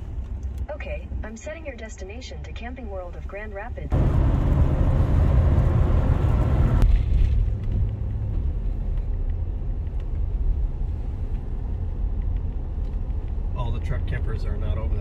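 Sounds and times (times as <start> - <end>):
road rumble inside truck cab: 0.0 - 15.0.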